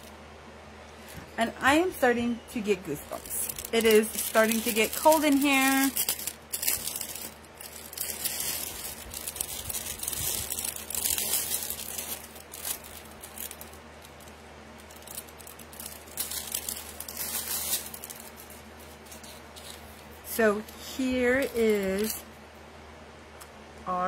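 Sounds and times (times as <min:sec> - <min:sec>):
packaging crinkling: 0:02.7 - 0:22.3.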